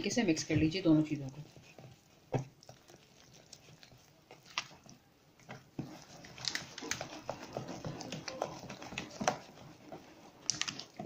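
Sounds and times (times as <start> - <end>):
utensil stirring thick batter: 0.0 - 11.0.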